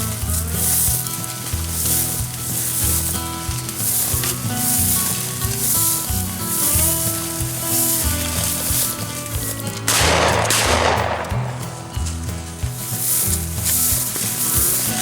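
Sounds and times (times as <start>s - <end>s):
background music with bass line: 0.0s - 15.0s
cymbal-like hiss: 0.0s - 15.0s.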